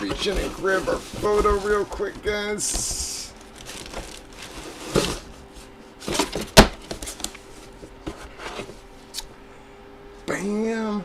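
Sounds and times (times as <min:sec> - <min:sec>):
cardboard box rustling and sliding: 0:00.0 - 0:08.8
faint steady hum: 0:00.0 - 0:11.0.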